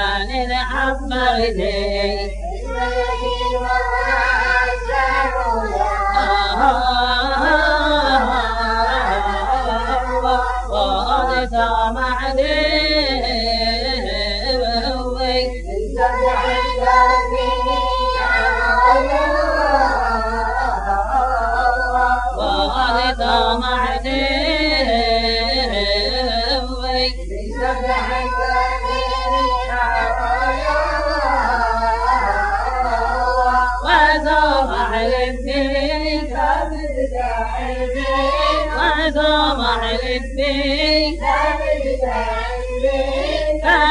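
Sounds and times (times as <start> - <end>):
man singing ornamented phrases: 0.0 - 43.9.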